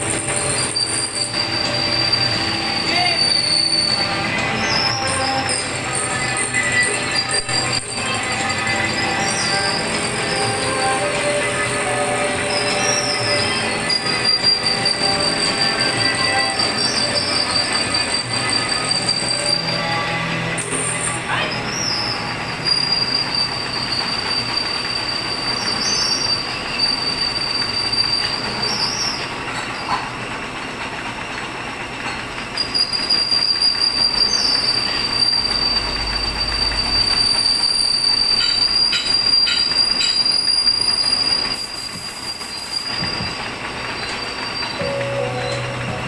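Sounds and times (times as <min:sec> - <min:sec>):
grinding hiss: 0:00.0 - 0:30.1, 0:32.6 - 0:46.0
machine tool squealing: 0:00.0 - 0:30.2, 0:32.0 - 0:46.0.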